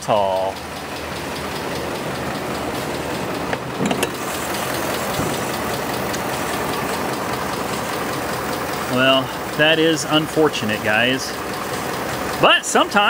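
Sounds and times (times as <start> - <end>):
engine idling: 0.0 - 13.0
fast even ticking: 0.0 - 13.0.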